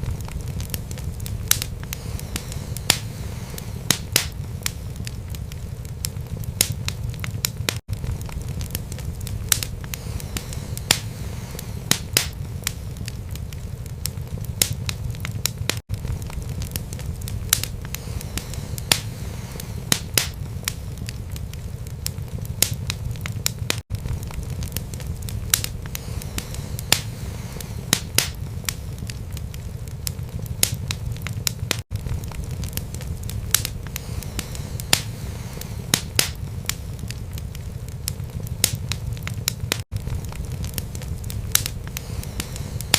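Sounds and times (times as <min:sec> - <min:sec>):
fire crackles and pops: 0:00.0 - 0:42.9
low rumble of flames: 0:00.0 - 0:42.9.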